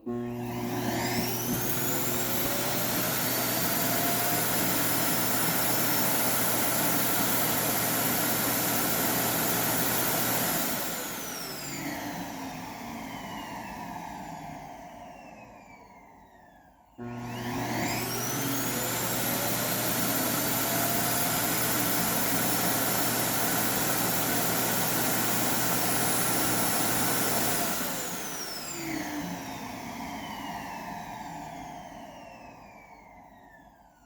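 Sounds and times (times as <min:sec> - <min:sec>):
suction motor whining: 0:00.0 - 0:33.2.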